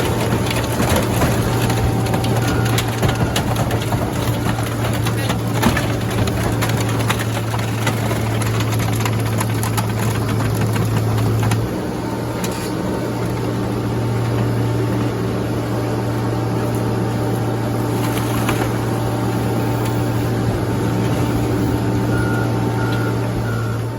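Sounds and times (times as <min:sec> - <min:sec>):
heavy engine idling: 0:00.0 - 0:23.9.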